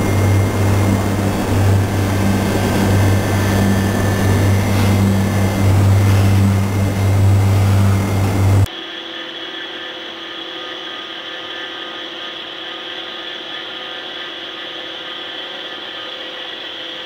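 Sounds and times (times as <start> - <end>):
machine humming with high whine: 0.0 - 17.0.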